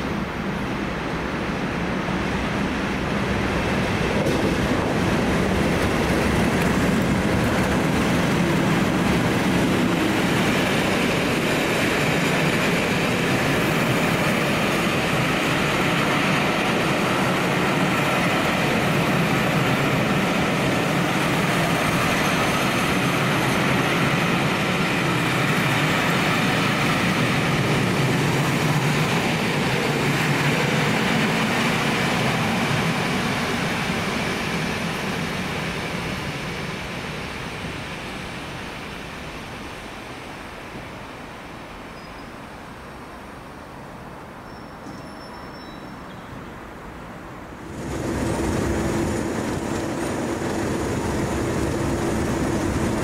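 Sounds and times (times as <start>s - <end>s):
train coaches rolling on rails: 0.0s - 40.9s, 44.2s - 53.0s
diesel locomotive engines: 0.0s - 53.0s.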